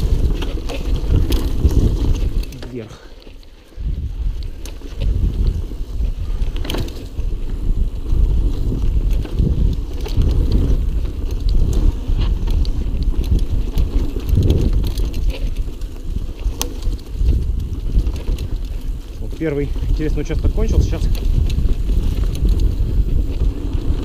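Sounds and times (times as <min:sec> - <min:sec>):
bike clicks and rattles: 0:00.0 - 0:24.0
bike tyre noise on dirt: 0:00.0 - 0:24.0
wind rumbling on microphone: 0:00.0 - 0:24.0.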